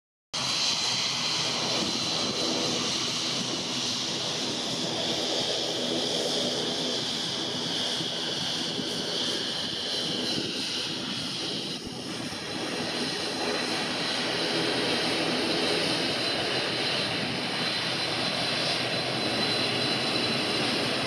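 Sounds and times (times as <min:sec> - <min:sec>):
jet engines whining: 0:00.4 - 0:21.0.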